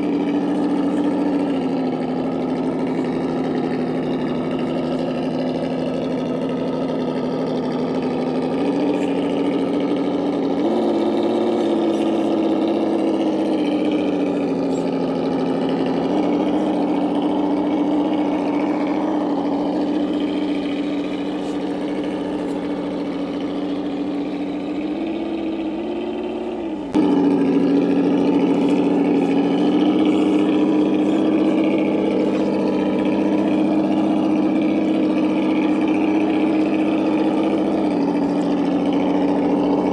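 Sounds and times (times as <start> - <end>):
simulated engine through small speaker: 0.0 - 39.9.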